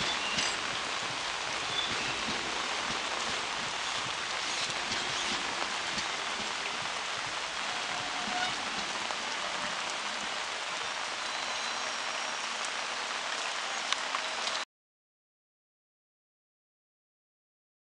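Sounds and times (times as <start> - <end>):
steady rain falling: 0.0 - 14.7.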